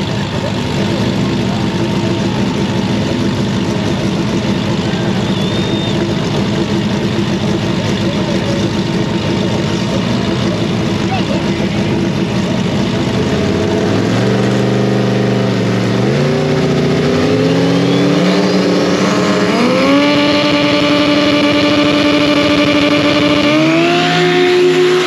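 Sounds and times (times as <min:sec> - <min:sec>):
drag racing engines revving: 0:00.0 - 0:25.0.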